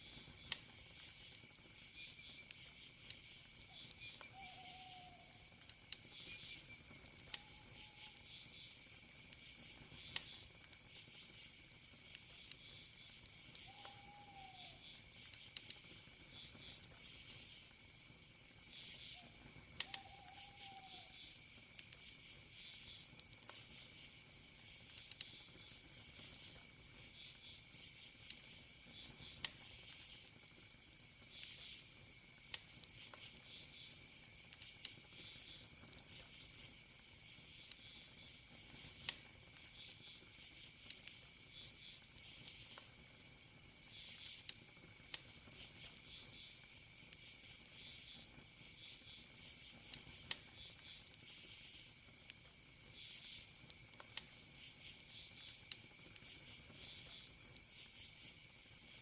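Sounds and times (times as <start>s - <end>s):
campfire crackling: 0.0s - 59.0s
crickets chirping: 0.0s - 59.0s
high insect tone: 0.1s - 59.0s.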